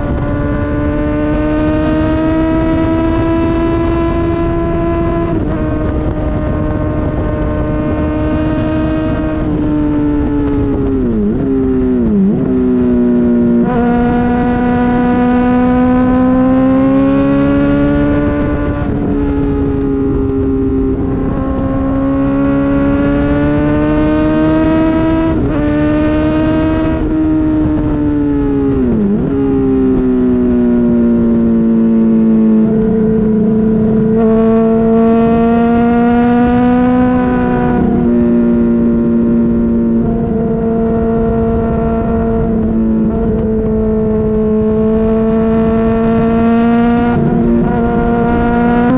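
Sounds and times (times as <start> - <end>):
motorcycle engine at high revs: 0.0 - 48.9.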